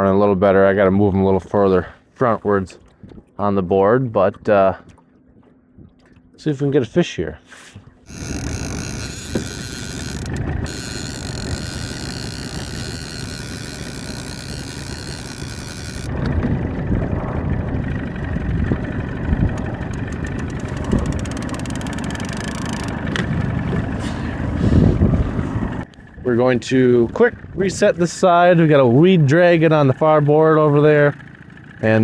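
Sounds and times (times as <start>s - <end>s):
outboard motor running: 4.4s - 32.0s.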